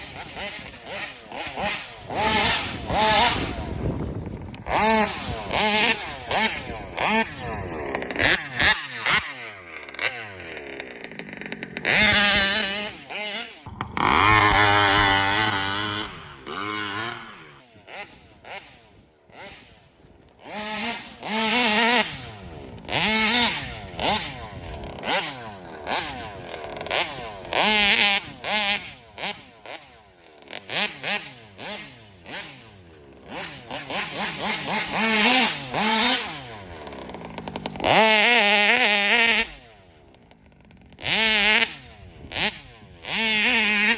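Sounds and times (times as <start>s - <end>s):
two-stroke engine revving in bursts: 0.0s - 43.9s.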